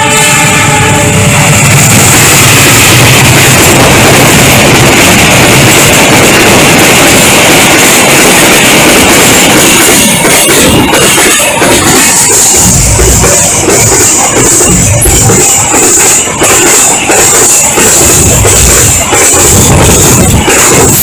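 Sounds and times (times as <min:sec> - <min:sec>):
freight train passing: 0:00.0 - 0:21.0.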